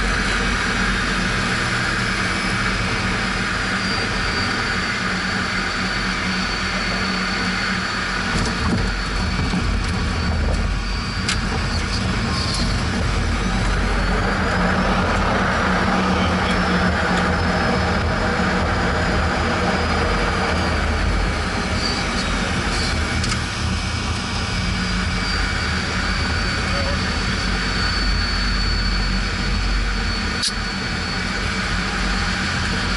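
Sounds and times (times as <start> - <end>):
faint high turbine whine: 0.0 - 32.9
jet engine and airflow noise: 0.0 - 32.9.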